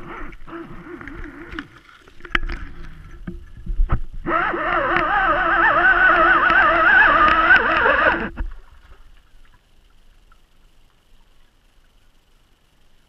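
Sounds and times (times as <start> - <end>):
underwater ambience: 0.0 - 13.0
wavering whine: 0.0 - 13.0.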